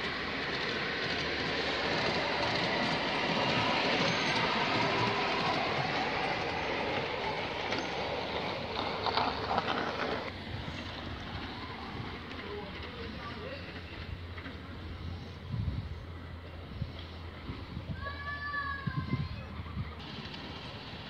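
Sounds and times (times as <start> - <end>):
miniature train wheels rumbling on rail: 0.0 - 21.0.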